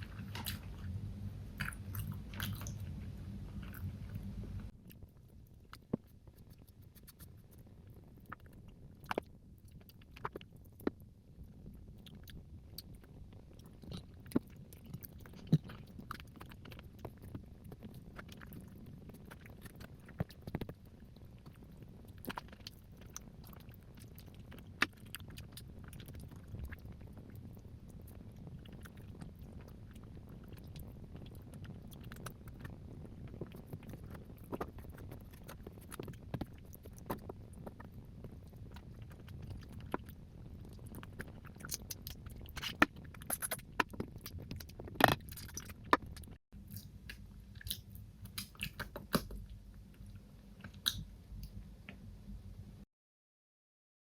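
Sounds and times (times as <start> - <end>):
chewing with wet mouth noises: 0.0 - 51.5.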